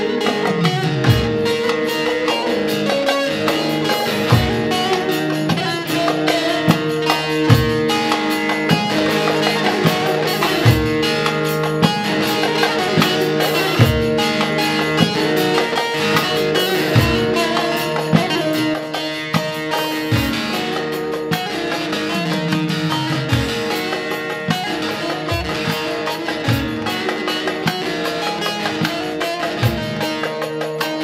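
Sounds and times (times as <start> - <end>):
electronic keyboard chords: 0.0 - 31.0
steady drum beat: 0.0 - 31.0.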